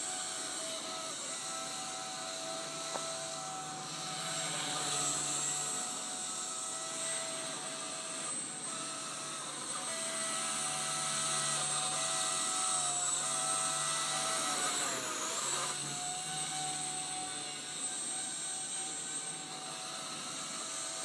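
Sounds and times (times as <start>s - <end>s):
rc helicopter motor whine: 0.0s - 21.0s.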